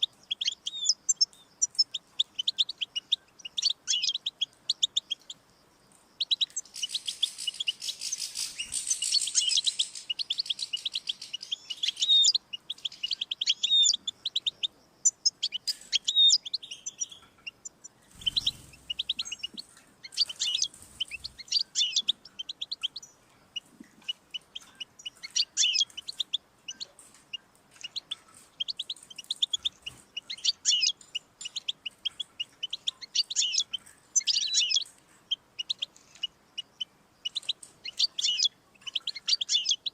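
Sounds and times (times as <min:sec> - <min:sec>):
goldfinch twittering chirps and trills: 0:00.0 - 0:05.4, 0:06.1 - 0:39.9.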